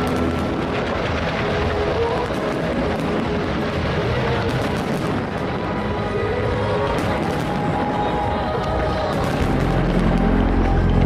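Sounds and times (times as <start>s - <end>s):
sharp firework bangs: 0.0s - 10.6s
fireworks crackle and rumble: 0.0s - 11.0s.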